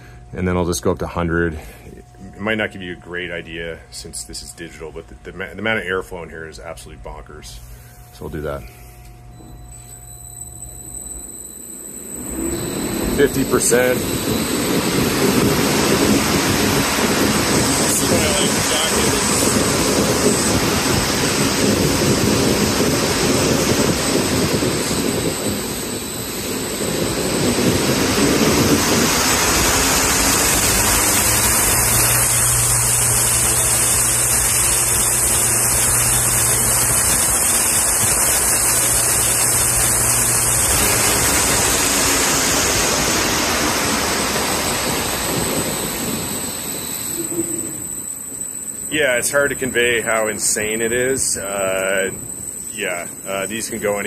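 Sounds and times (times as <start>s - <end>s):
exhaust fans rushing air: 0.0s - 54.0s
low hum: 0.0s - 54.0s.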